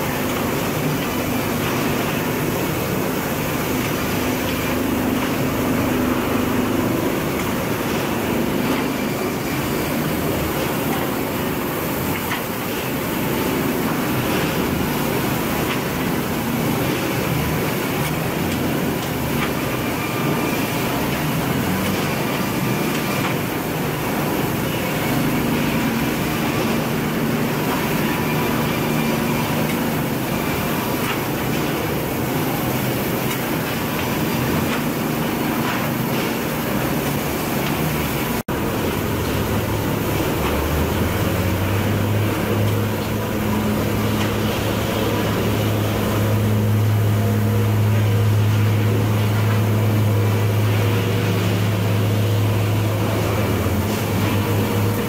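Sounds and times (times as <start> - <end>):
sawmill machinery hum and clatter: 0.0 - 55.0.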